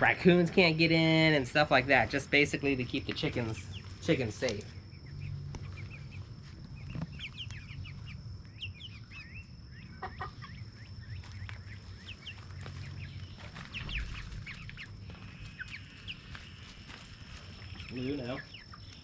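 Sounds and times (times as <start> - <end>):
young chickens peeping and clucking: 0.0 - 19.0.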